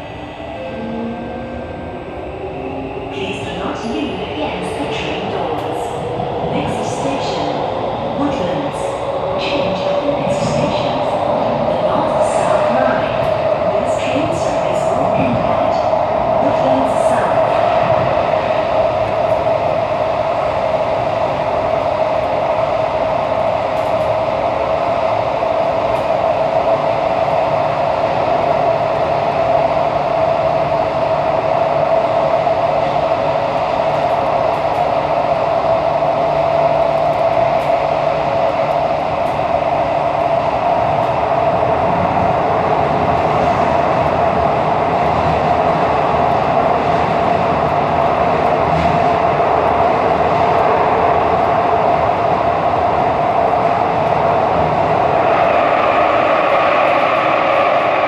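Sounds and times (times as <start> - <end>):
high-pitched train whine: 0.0 - 58.0
train running noise: 0.0 - 58.0.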